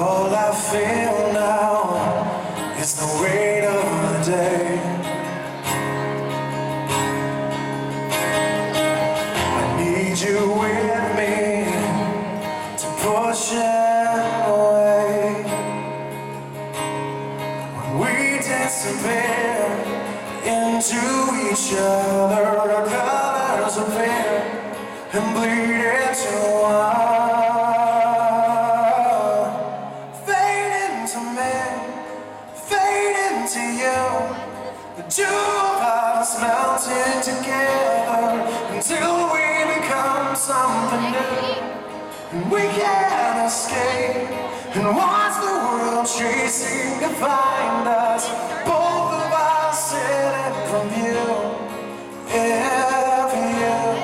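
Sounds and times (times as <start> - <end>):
electric guitar: 0.0 - 54.0
male lead vocal: 0.0 - 54.0
strummed acoustic guitar: 0.0 - 54.0.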